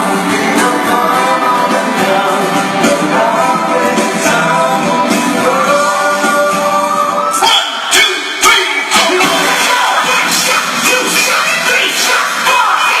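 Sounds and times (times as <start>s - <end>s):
loud music: 0.0s - 13.0s.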